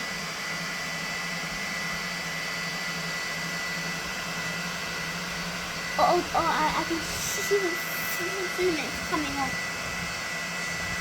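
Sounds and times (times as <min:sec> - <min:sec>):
cooling fans whooshing: 0:00.0 - 0:11.0.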